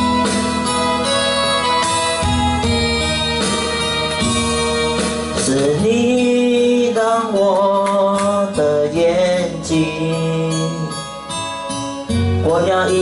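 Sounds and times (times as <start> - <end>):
slow pop ballad backing track: 0.0 - 13.0.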